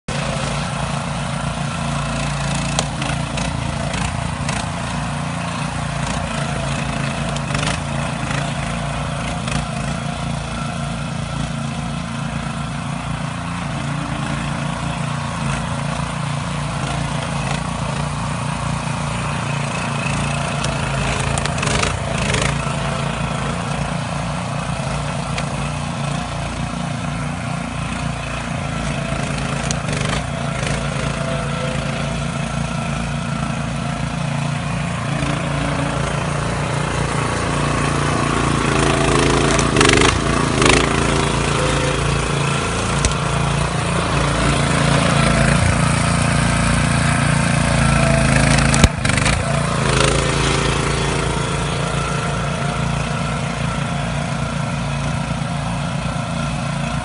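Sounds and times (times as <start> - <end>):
small petrol saw engines running: 0.0 - 57.0.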